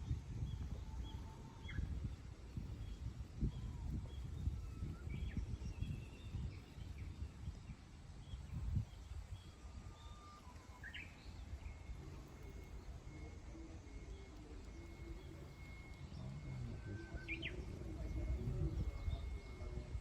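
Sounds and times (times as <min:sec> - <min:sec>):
low uneven rumble: 0:00.0 - 0:20.0.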